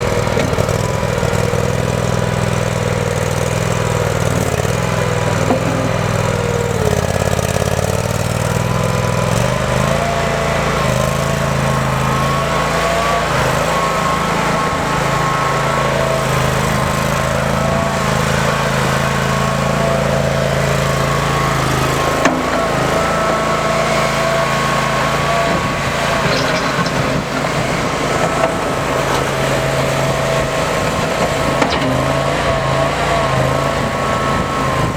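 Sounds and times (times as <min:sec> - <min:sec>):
utility loader engine running: 0:00.0 - 0:34.9.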